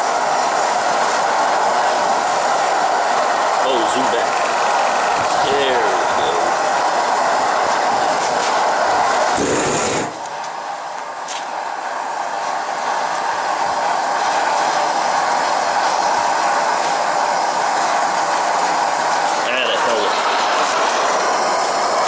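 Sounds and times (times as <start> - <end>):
torch flame hissing: 0.0 - 22.0.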